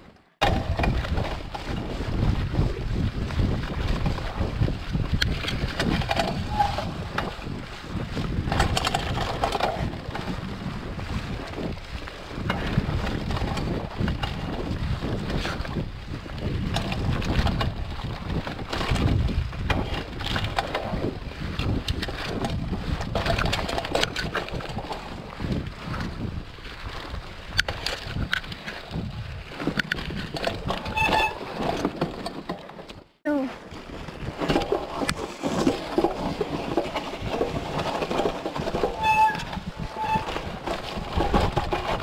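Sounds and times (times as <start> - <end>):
wind buffeting microphone: 0.0 - 32.5, 33.5 - 42.0
bike rattling over bumps: 0.0 - 42.0.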